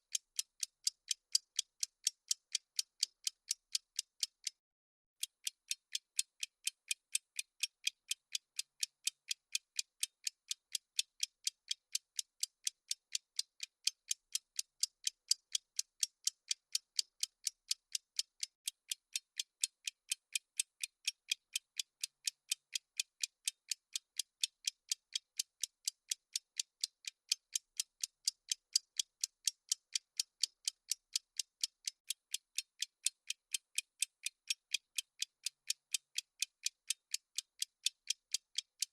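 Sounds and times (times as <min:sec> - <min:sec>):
clock ticking: 0:00.1 - 0:04.6, 0:05.2 - 0:38.9.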